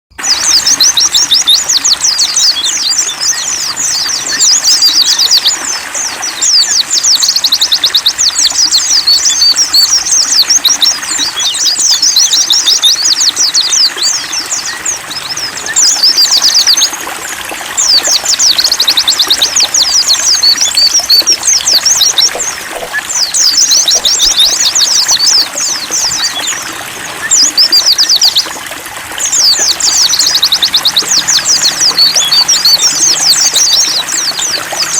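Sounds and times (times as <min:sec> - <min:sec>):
birds twittering: 0:00.1 - 0:34.9
running water trickling: 0:00.1 - 0:34.9.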